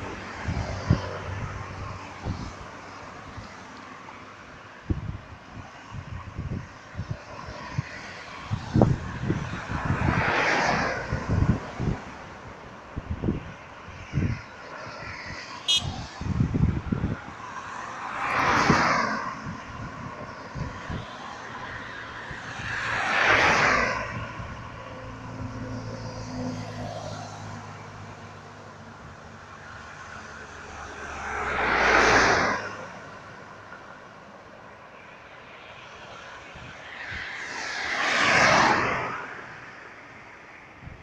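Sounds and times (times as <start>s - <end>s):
cars passing by: 0.0s - 41.0s.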